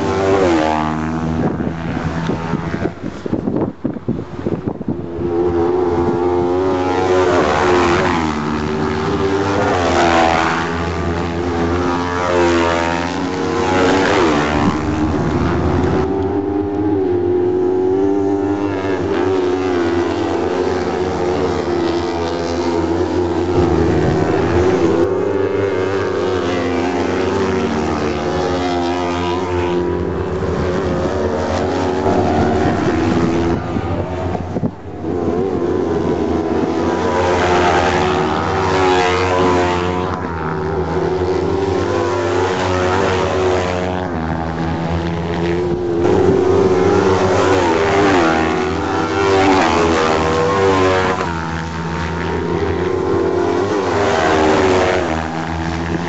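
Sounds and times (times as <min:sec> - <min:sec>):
racing buggy engines revving: 0:00.0 - 0:56.0.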